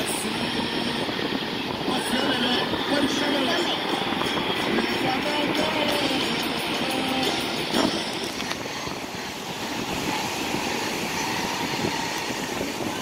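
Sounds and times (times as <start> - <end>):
ocean surf breaking on sand: 0.0 - 13.0.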